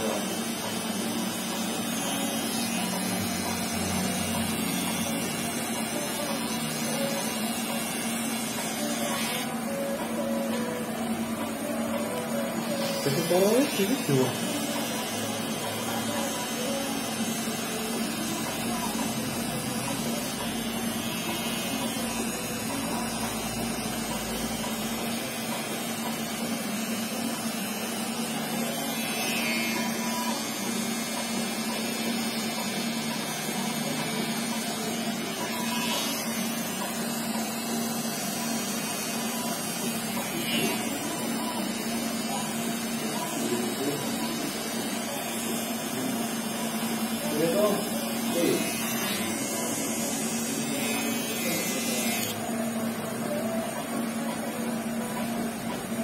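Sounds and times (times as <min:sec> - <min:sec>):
hair trimmer humming: 0:00.0 - 0:53.4.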